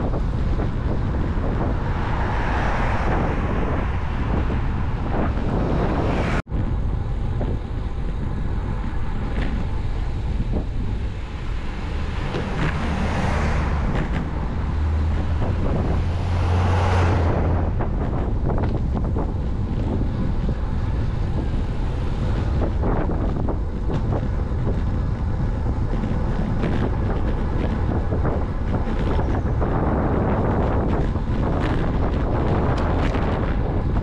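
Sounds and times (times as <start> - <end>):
low rumble: 0.0 - 34.0
road noise: 0.0 - 34.0
wind buffeting microphone: 0.0 - 34.0.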